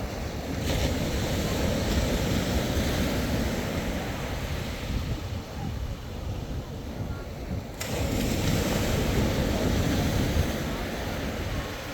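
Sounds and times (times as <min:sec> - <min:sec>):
waves breaking on beach: 0:00.0 - 0:11.9
wind on microphone: 0:00.0 - 0:11.9.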